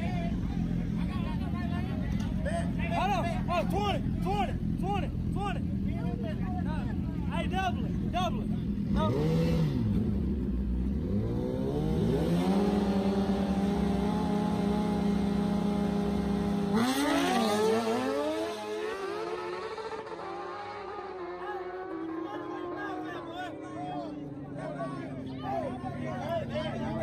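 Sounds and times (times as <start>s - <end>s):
sport bike engines revving: 0.0s - 27.0s.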